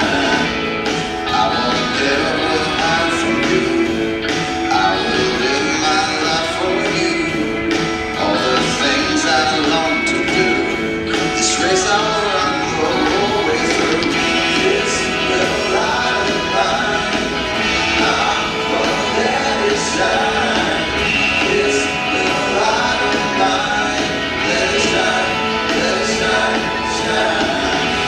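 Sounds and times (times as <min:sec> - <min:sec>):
person singing with band: 0:00.0 - 0:28.0.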